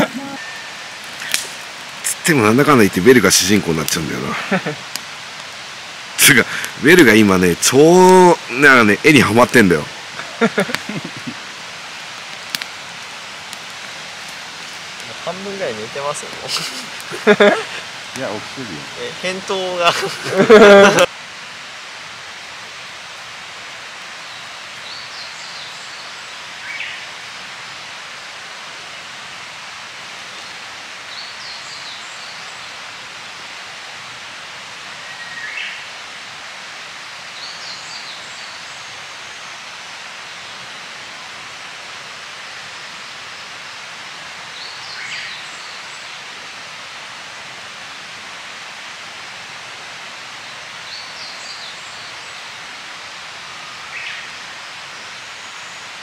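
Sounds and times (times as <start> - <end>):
outdoor ambient hiss: 0.0 - 56.0.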